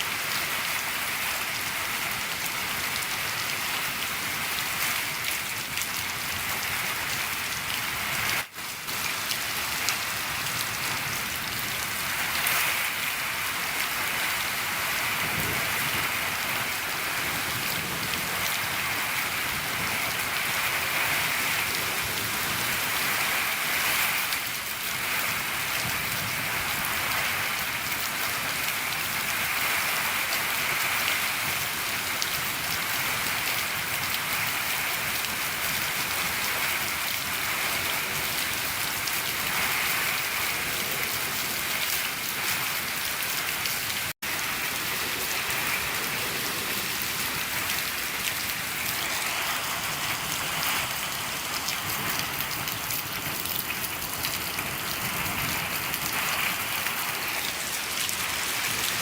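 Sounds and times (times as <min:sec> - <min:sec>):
heavy rain on a shed roof: 0:00.0 - 0:59.0.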